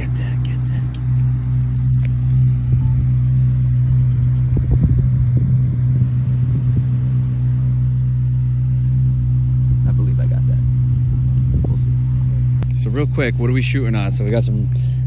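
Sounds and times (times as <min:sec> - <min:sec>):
car engine idling: 0:00.0 - 0:15.0
uneven engine rumbling: 0:00.0 - 0:15.0.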